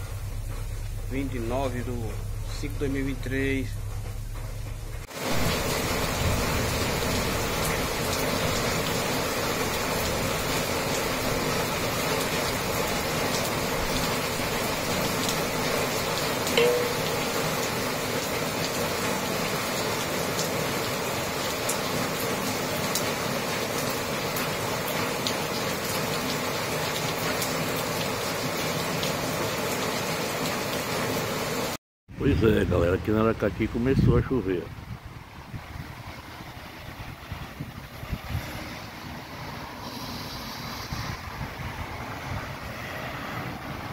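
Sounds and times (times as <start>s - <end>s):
steady rain falling: 0.0s - 31.8s, 34.8s - 43.9s.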